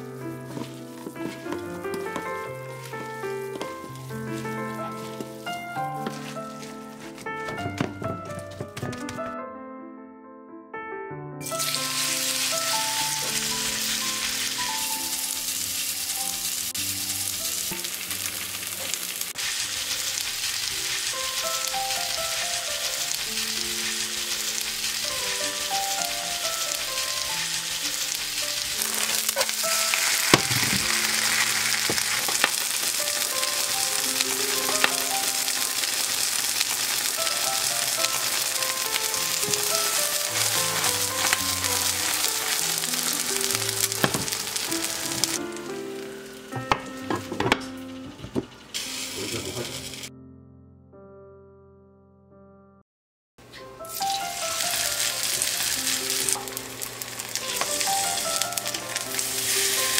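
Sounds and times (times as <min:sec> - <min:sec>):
batter sizzling in oil: 0:00.0 - 0:07.9, 0:11.4 - 0:47.7, 0:48.3 - 0:50.1, 0:53.6 - 0:59.9
light background music: 0:00.0 - 0:09.4, 0:11.4 - 0:19.6, 0:20.6 - 0:50.1, 0:53.5 - 0:59.9.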